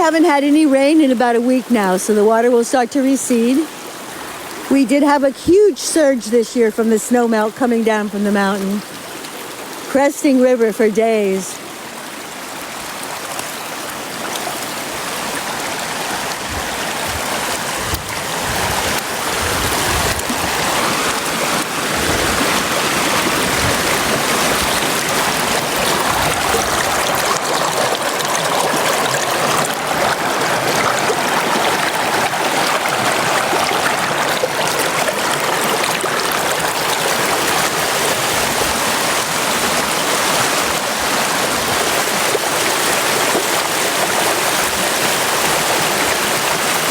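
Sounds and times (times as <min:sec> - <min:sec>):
brook water flowing: 0:00.0 - 0:46.9.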